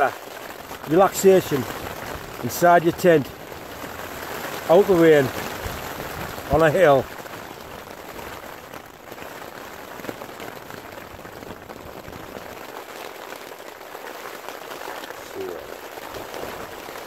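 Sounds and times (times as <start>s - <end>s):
heavy rain on tent fabric: 0.0s - 17.0s.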